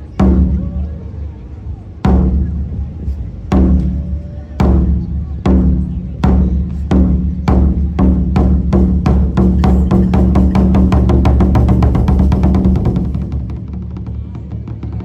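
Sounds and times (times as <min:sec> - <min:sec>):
taiko drums beating: 0:00.0 - 0:01.0, 0:01.9 - 0:15.0.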